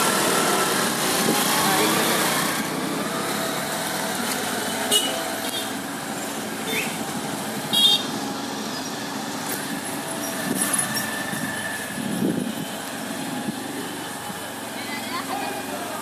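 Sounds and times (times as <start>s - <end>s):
traffic: 0.0s - 16.0s.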